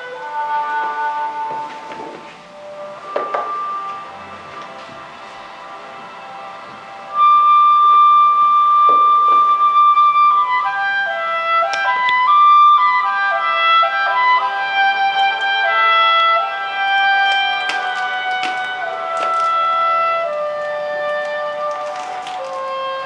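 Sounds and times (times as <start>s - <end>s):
background music melody: 0.0s - 23.0s.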